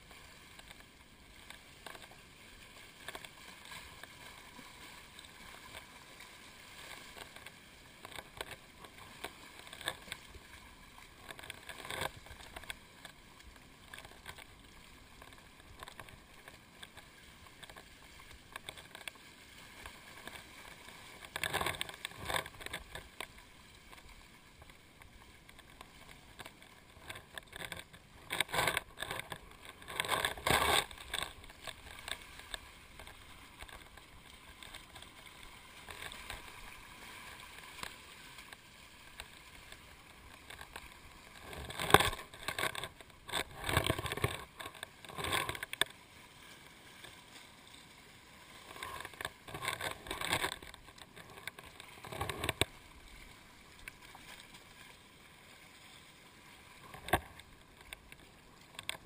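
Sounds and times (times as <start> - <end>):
sea water lapping and splashing: 0.0 - 59.0.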